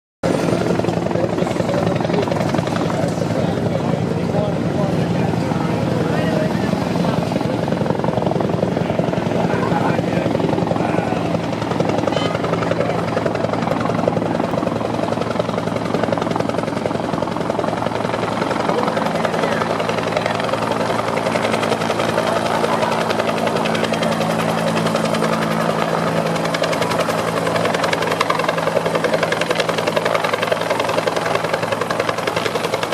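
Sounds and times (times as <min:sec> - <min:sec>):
helicopter rotor blades beating: 0:00.2 - 0:32.9.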